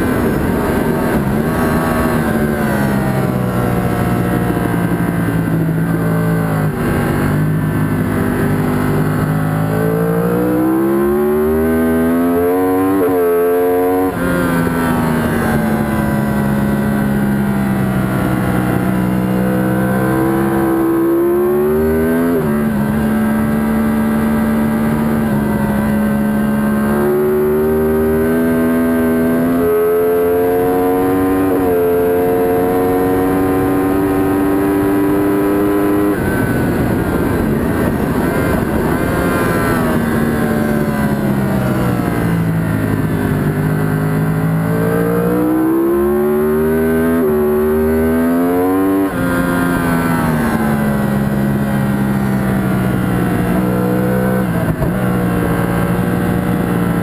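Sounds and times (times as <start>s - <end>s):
race motorcycle engine revving: 0.0s - 57.0s.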